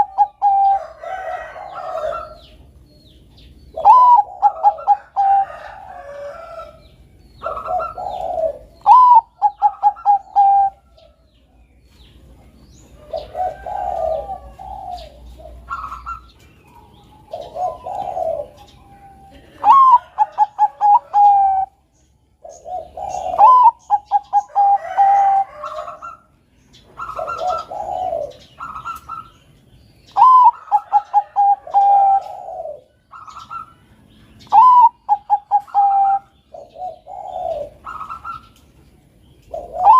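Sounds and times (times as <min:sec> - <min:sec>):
dove cooing: 0:00.0 - 0:11.2, 0:12.2 - 0:29.5, 0:30.1 - 0:38.8, 0:39.4 - 0:39.9.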